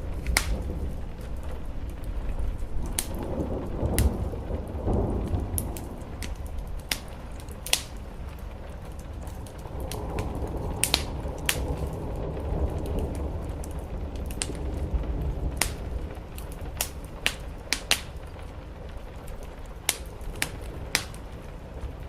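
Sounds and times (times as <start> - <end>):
rain on the roof: 0.0 - 22.0
sharp fire pops: 0.0 - 22.0
wood fire crackling: 0.0 - 22.0.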